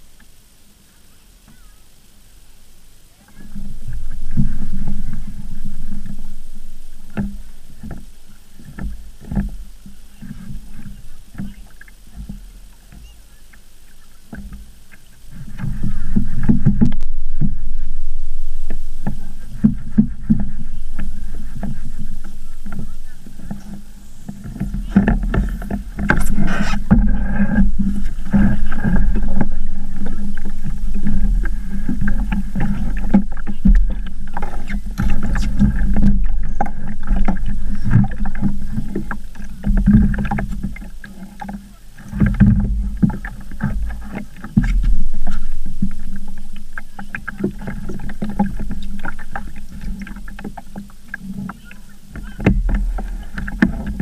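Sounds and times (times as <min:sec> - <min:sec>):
knocks and clunks in boat: 0:03.2 - 0:54.0
water slapping against hull: 0:03.2 - 0:54.0.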